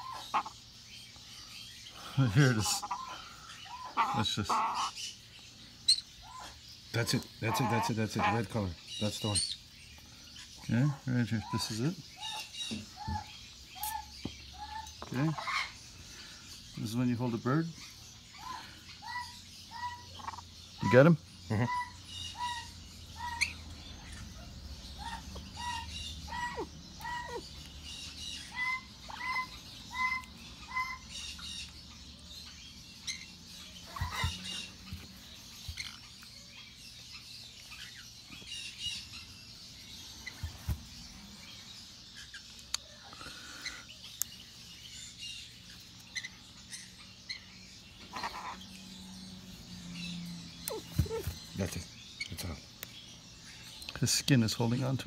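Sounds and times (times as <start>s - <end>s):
parrot chirping: 0.0s - 10.7s, 11.4s - 15.8s, 17.8s - 54.0s.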